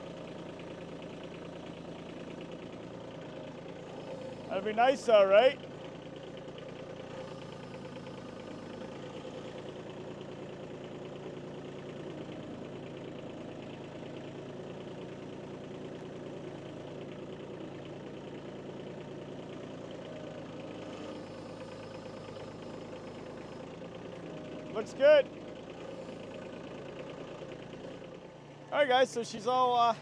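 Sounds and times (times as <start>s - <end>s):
tractor diesel engine idling: 0.0s - 30.0s.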